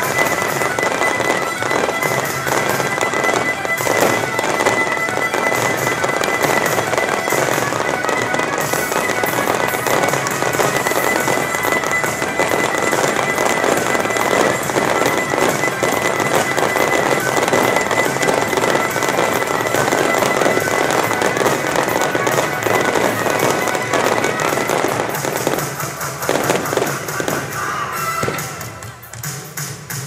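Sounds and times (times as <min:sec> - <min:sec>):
fireworks bursting and crackling: 0:00.0 - 0:30.0
music: 0:00.0 - 0:30.0.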